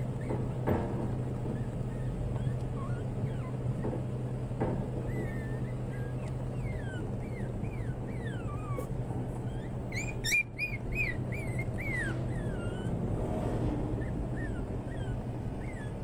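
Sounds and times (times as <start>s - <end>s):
puppy yelps: 0.0s - 13.1s, 14.0s - 16.0s
puppies whimpering and whining: 0.0s - 16.0s
steady low hum: 0.0s - 16.0s.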